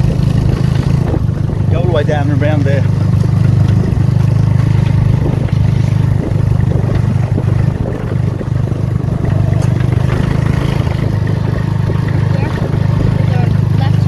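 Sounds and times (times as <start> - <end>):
kart engine running: 0.0 - 14.0.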